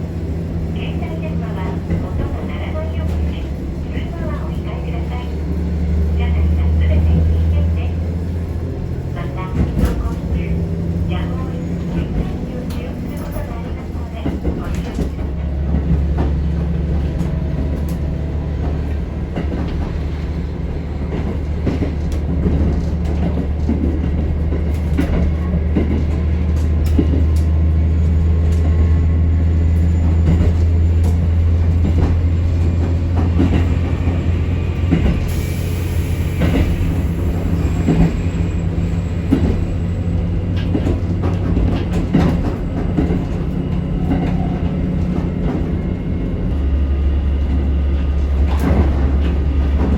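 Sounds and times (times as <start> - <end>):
diesel railcar engine hum: 0.0 - 49.9.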